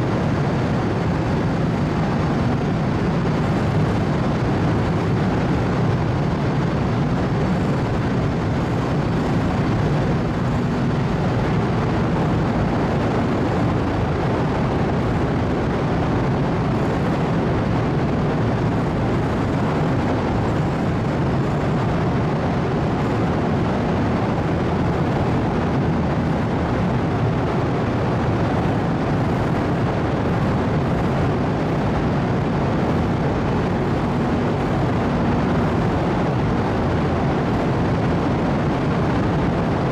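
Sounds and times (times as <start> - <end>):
machinery rumble and hiss: 0.0 - 39.9.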